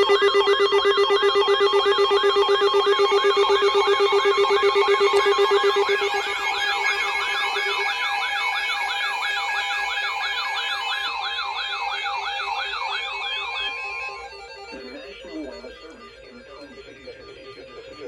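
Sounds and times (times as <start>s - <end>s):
steady electronic tone: 0.0s - 18.0s
warbling electronic alert tone: 0.0s - 18.0s.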